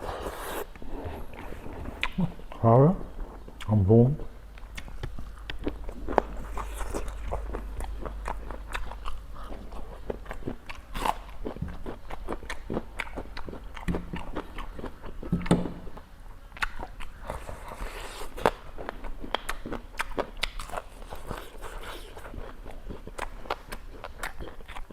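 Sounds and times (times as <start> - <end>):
person chewing crunchy food: 0.0 - 24.9.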